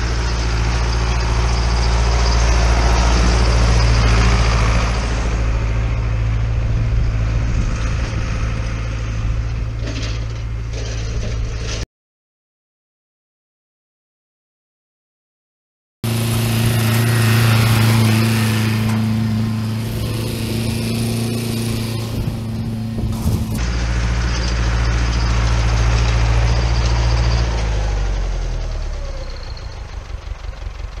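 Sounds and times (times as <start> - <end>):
tractor diesel engine running: 0.0 - 11.8, 16.0 - 31.0.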